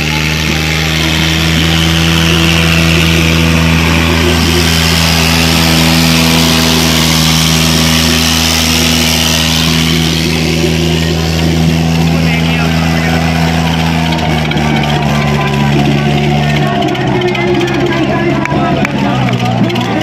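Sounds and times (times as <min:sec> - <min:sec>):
tractor diesel engines at high revs: 0:00.0 - 0:20.0.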